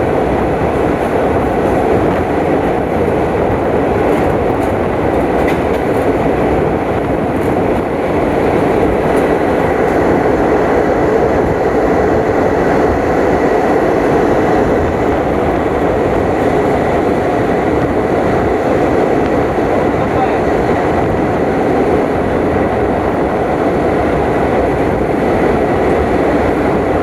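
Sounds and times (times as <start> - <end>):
train running along track: 0.0 - 27.0.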